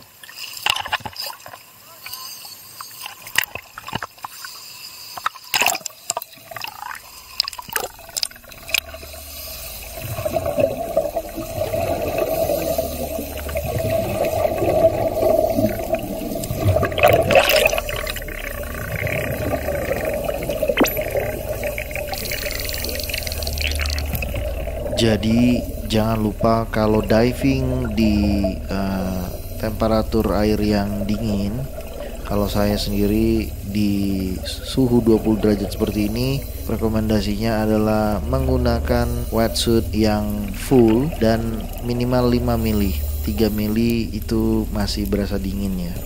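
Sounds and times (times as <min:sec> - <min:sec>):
water splashing and sloshing: 0:00.0 - 0:46.0
bubbling of exhaled air: 0:05.5 - 0:46.0
muffled underwater rumble: 0:07.0 - 0:46.0.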